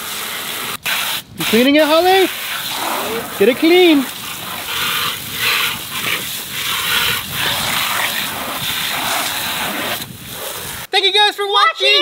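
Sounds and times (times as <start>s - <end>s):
hose spraying water on plastic: 0.0s - 10.9s.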